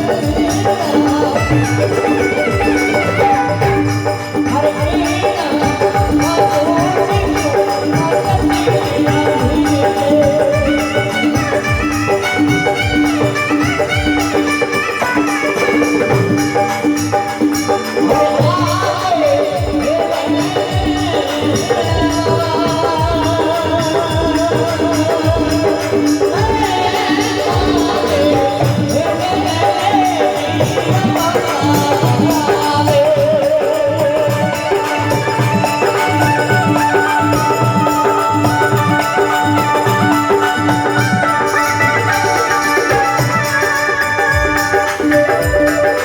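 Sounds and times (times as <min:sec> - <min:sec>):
rattling jingling percussion: 0:00.0 - 0:46.0.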